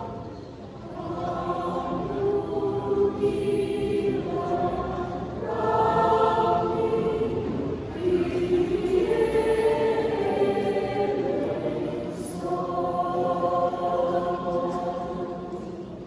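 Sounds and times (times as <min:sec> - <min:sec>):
choir singing long held notes: 0:00.0 - 0:16.0.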